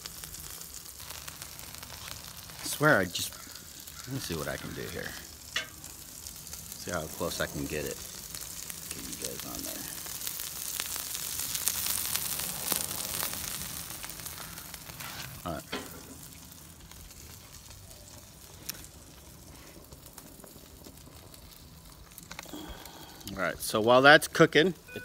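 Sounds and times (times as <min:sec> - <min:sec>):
food sizzling on a griddle: 0:00.0 - 0:25.0.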